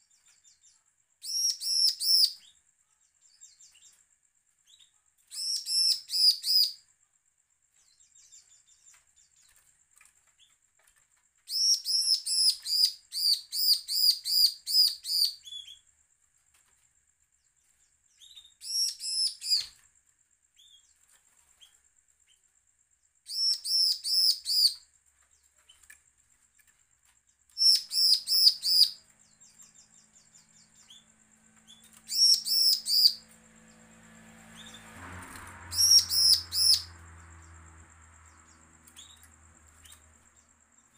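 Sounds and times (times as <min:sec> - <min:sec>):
bird song of sharp high notes: 0:00.0 - 0:16.0, 0:16.6 - 0:40.9.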